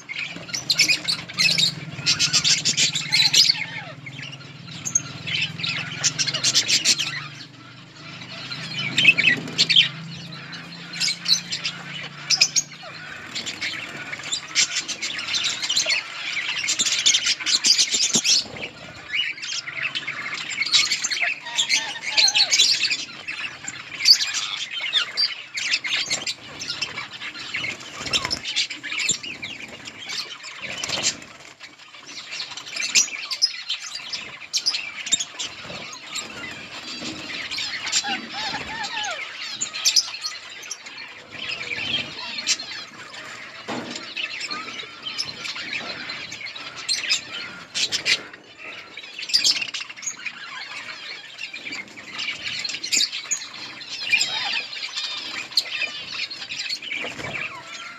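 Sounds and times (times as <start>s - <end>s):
budgerigars chirping and chattering: 0.0s - 57.9s.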